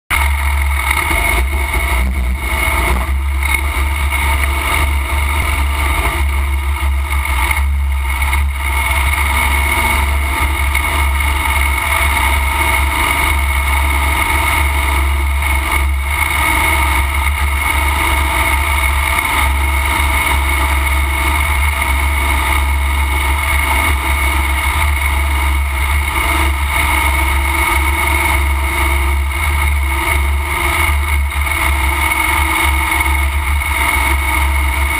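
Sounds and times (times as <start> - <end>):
heavy low rumble: 0.1 - 34.9
lawn tractor engine running: 0.1 - 34.9.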